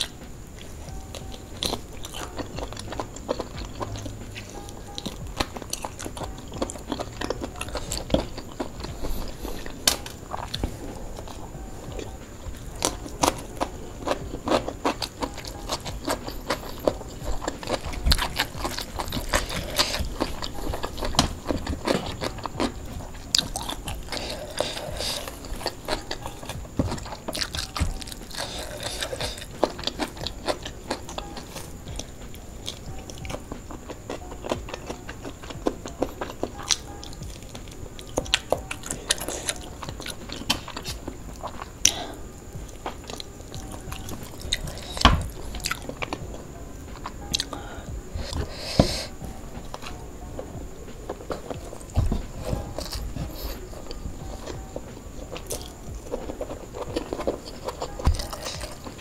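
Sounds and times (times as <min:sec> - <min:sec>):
chewing and lip-smacking: 0:00.0 - 0:59.0.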